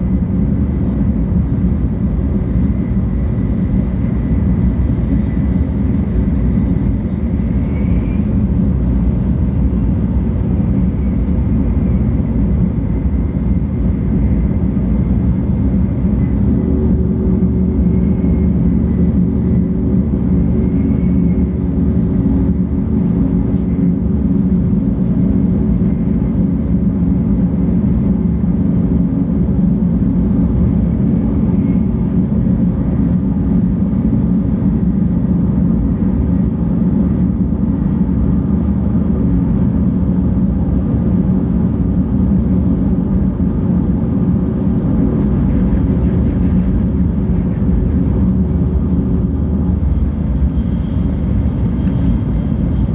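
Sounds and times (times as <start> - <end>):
train cabin rumble: 0.0 - 34.8, 35.4 - 52.9.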